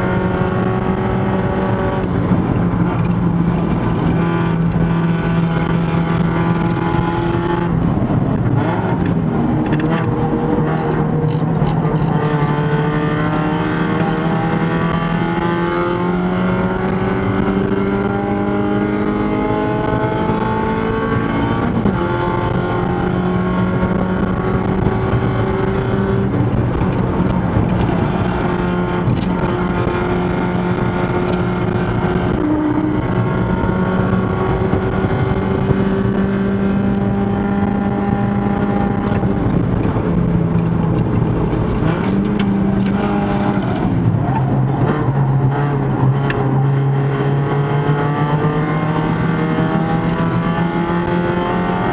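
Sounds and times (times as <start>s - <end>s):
race car engine at full throttle: 0.0s - 51.9s.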